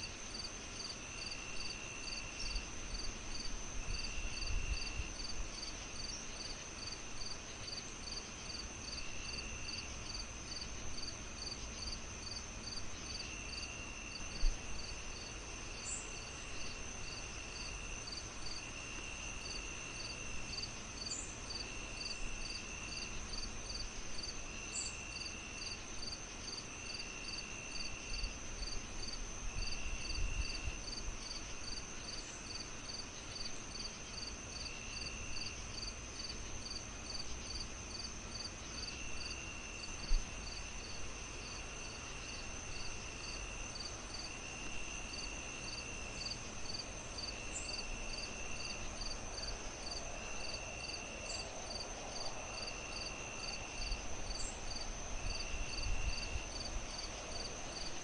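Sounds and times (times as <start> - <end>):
crickets chirping: 0.0 - 58.0
low hiss: 0.0 - 58.0
lower insect trill: 0.0 - 58.0
steady high insect trill: 0.0 - 58.0.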